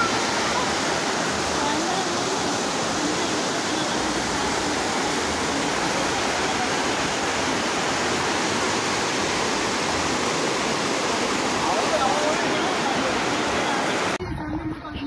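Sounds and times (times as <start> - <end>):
river rushing over rocks: 0.0 - 14.2.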